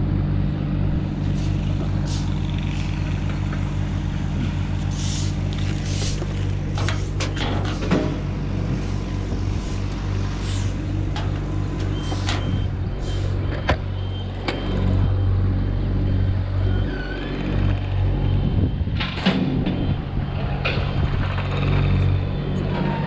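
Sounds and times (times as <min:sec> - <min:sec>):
large machine engine running: 0:00.0 - 0:23.0.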